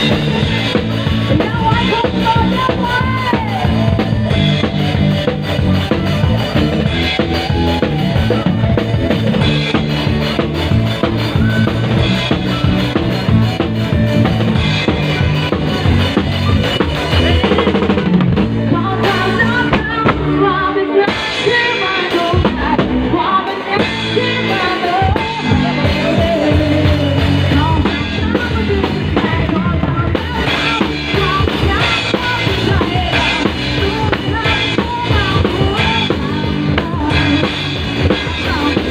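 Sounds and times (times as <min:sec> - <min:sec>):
band music: 0:00.0 - 0:38.9
drum kit beat: 0:00.0 - 0:38.9.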